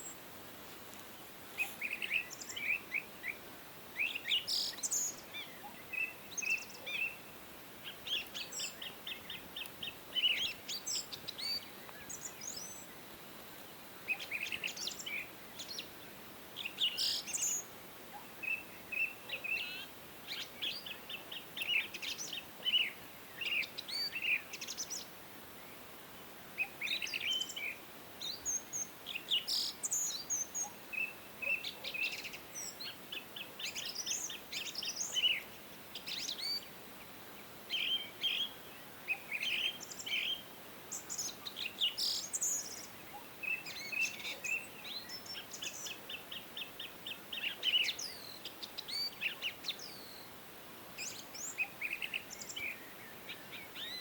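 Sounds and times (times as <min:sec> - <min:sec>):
songbirds singing: 0:00.0 - 0:00.3, 0:00.9 - 0:54.0
faint background hiss: 0:00.0 - 0:54.0.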